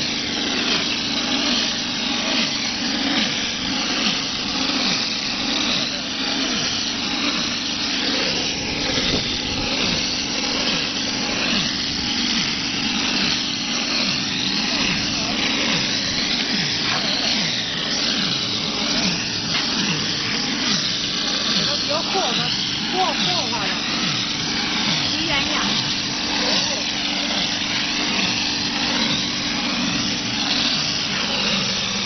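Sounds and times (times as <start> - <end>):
mortar spraying machine rushing: 0.0 - 32.0.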